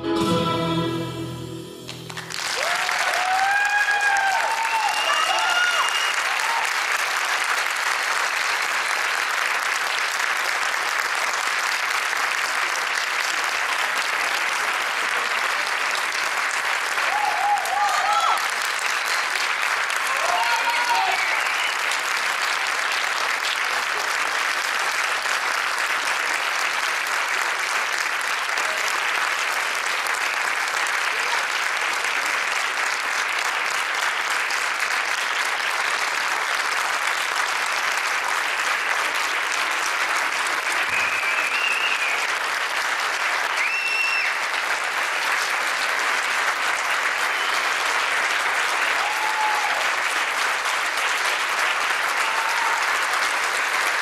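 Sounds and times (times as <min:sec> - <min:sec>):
audience applauding: 0:01.8 - 0:54.0.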